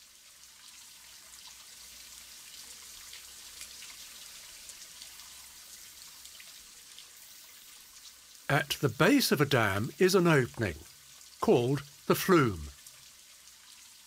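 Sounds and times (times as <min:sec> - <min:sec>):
water trickling and dripping: 0:00.0 - 0:14.0.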